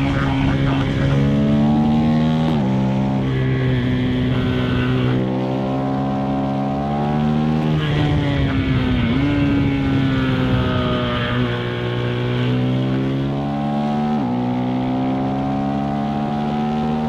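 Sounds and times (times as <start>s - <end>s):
motorcycle engine revving under load: 0.0s - 17.0s.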